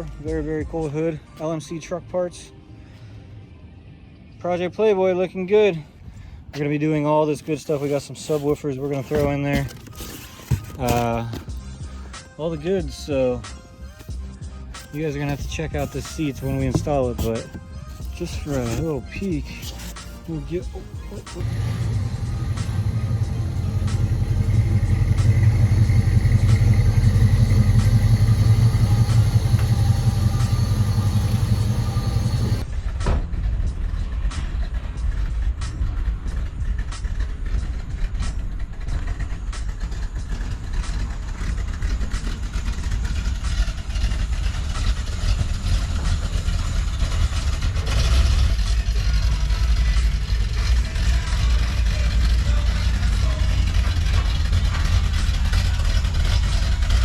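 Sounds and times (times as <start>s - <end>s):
vehicle engine running: 7.3s - 57.0s.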